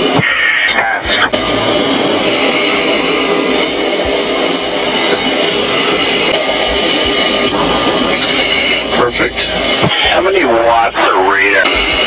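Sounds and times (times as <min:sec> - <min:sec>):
high-pitched engine whine: 0:00.0 - 0:12.0
jet engine roar: 0:00.0 - 0:12.0.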